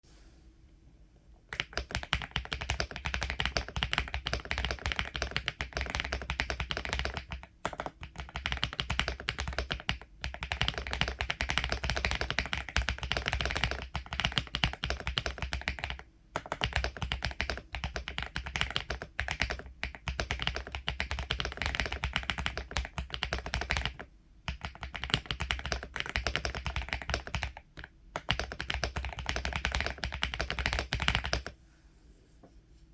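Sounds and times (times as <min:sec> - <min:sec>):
typing on mechanical keyboard: 0:01.5 - 0:31.5.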